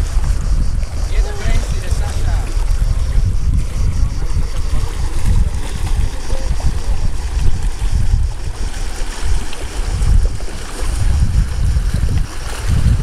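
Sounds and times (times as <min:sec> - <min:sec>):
waves washing on rocky shore: 0:00.0 - 0:13.0
wind buffeting microphone: 0:00.0 - 0:13.0.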